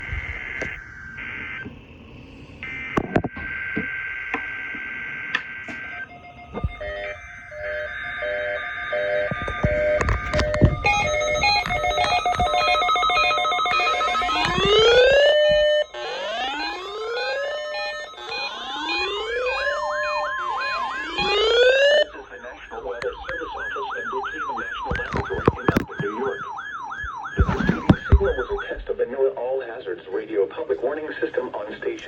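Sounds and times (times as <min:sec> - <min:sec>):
electronic siren: 0:00.0 - 0:29.4.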